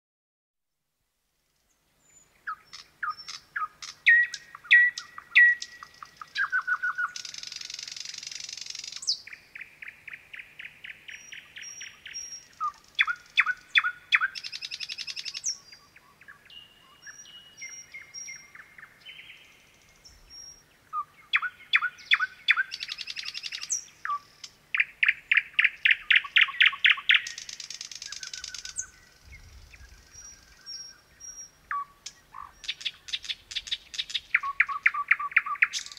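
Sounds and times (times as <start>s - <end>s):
nightingale singing: 1.5s - 35.9s.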